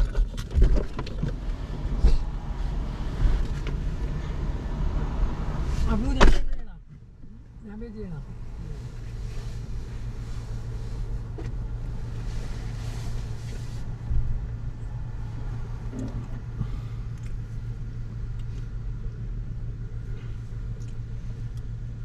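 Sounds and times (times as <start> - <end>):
road and engine rumble in car: 0.0 - 22.0.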